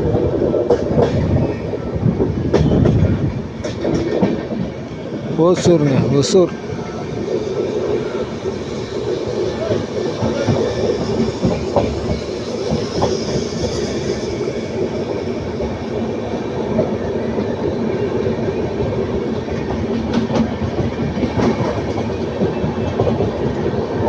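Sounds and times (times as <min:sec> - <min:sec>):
train coach rumbling: 0:00.0 - 0:24.0
wheels clacking on rail joints: 0:02.2 - 0:17.0, 0:18.8 - 0:23.6.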